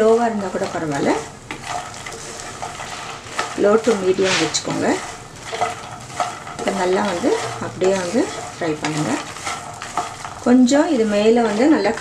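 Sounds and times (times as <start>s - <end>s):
light frying sizzle: 0.0s - 12.0s
wooden spatula scraping a pan: 0.0s - 12.0s.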